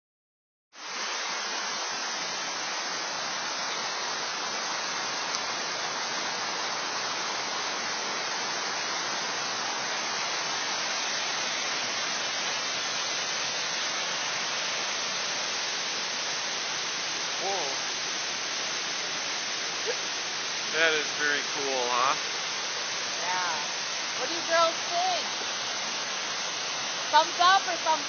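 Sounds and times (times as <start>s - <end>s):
waterfall rushing: 0.8s - 28.0s.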